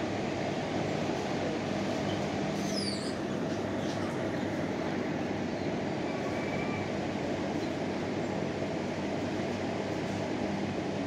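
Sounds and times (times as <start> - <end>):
dense rumbling background noise: 0.0 - 11.0.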